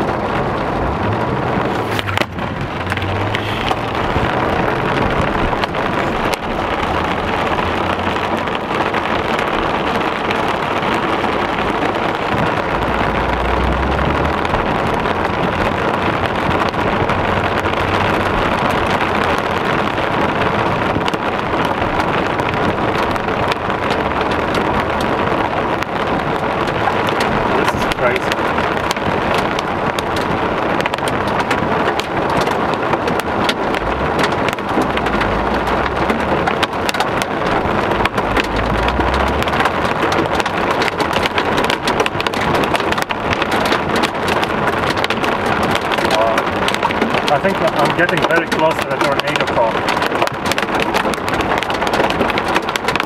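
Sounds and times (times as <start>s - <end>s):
low rumble: 0.0s - 47.7s
car on wet road: 0.0s - 53.0s
heavy rain on car roof: 0.0s - 53.0s.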